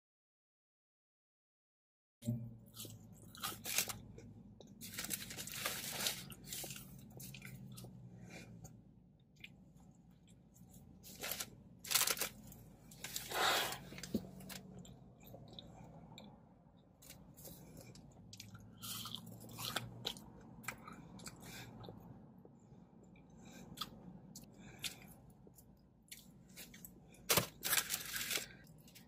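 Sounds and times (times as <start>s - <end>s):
person chewing crunchy food: 2.7s - 22.1s, 23.0s - 29.0s.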